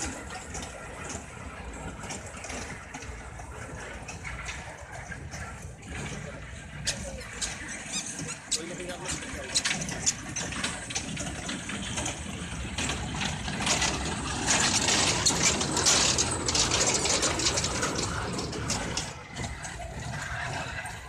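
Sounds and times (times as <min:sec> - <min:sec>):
train cars rattling and clicking: 0:00.0 - 0:21.0
train motor hum: 0:00.0 - 0:21.0.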